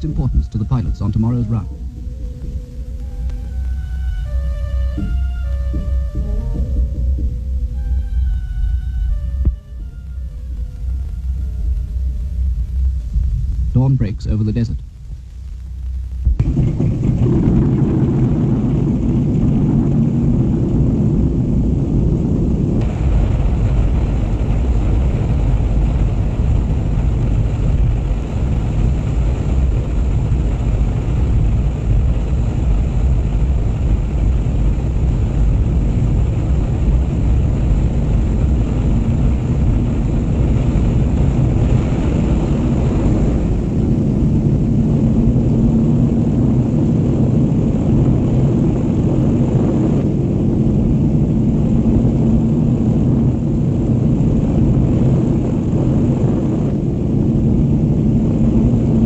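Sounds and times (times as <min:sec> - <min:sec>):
propeller engines droning: 0:00.0 - 0:59.0.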